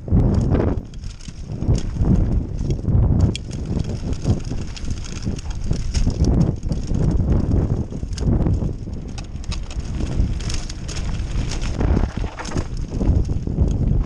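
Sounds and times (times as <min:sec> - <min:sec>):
bike rattling and knocking: 0:00.0 - 0:14.0
wind and ground rumble: 0:00.0 - 0:14.0.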